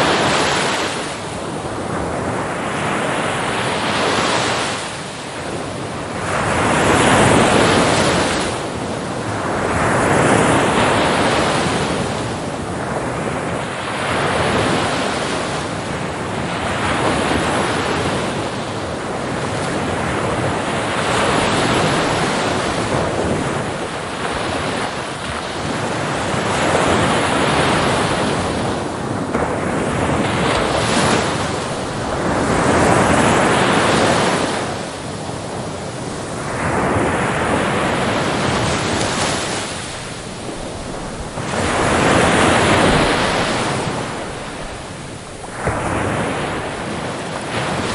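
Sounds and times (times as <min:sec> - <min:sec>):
ocean waves crashing on shore: 0:00.0 - 0:47.9.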